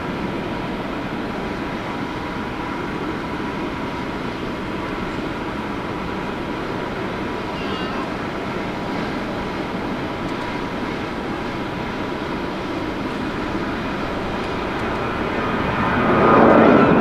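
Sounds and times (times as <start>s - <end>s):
jet engines rushing and whining: 0.0s - 17.0s.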